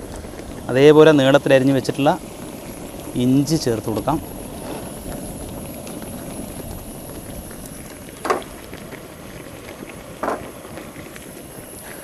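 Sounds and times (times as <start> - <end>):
coconut milk bubbling: 0.0 - 12.0.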